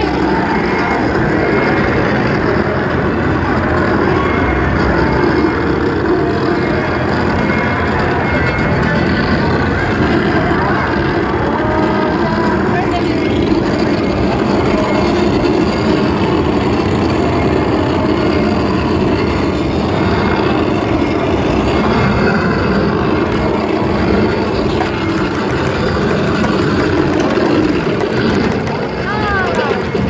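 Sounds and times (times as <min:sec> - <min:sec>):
amusement arcade din: 0:00.0 - 0:30.0.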